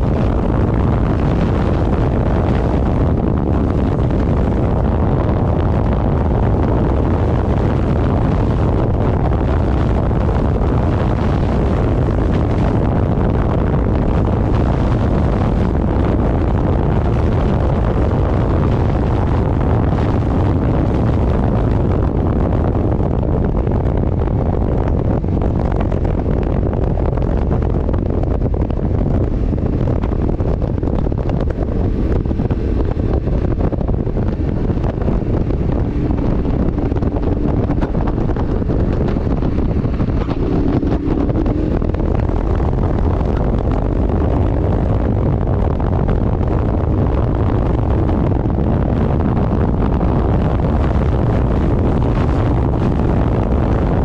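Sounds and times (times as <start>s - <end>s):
road noise: 0.0s - 54.0s
vehicle engine: 0.0s - 54.0s
wind buffeting microphone: 0.0s - 54.0s.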